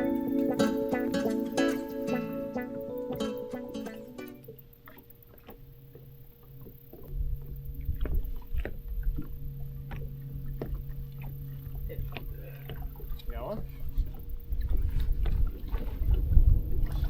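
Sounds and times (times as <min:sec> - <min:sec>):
boat motor humming: 0:00.0 - 0:15.3.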